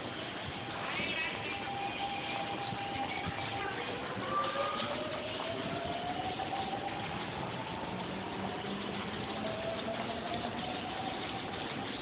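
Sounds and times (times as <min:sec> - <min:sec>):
station hubbub: 0:00.0 - 0:12.0.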